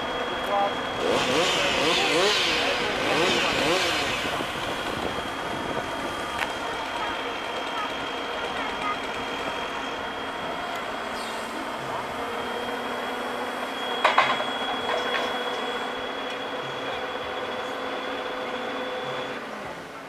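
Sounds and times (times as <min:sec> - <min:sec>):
hydraulic crane whine: 0:00.0 - 0:20.0.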